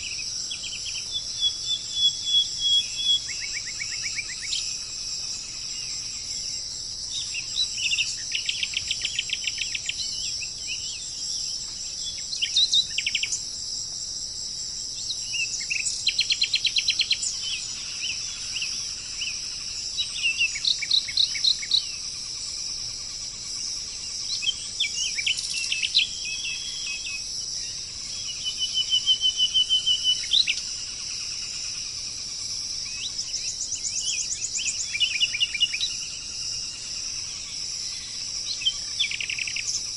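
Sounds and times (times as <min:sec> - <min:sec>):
high-pitched insect buzz: 0:00.0 - 0:39.9
small songbirds trilling: 0:00.0 - 0:39.9.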